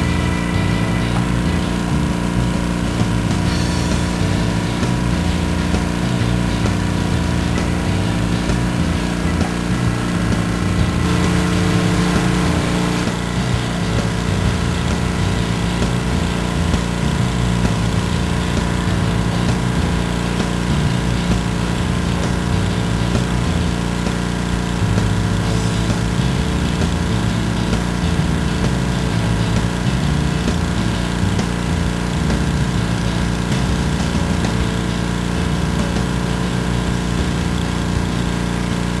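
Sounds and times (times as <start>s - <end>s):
small gasoline engine running: 0.0s - 39.0s.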